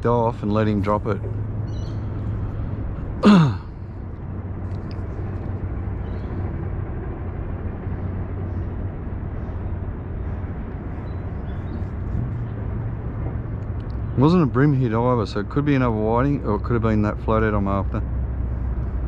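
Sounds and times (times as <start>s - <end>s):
distant engine hum: 0.0s - 19.0s
outdoor noise floor: 0.0s - 19.0s.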